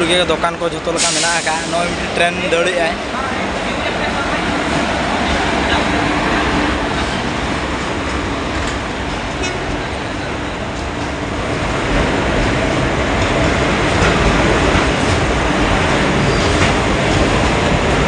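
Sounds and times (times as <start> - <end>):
passing train wheels rumbling: 0.0 - 18.0.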